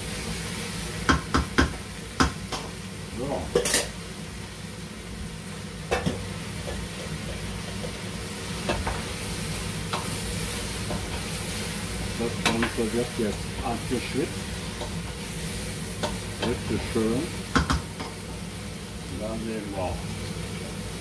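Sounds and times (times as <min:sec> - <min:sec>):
extractor fan humming: 0:00.0 - 0:21.0
vegetables sizzling in oil: 0:00.0 - 0:21.0.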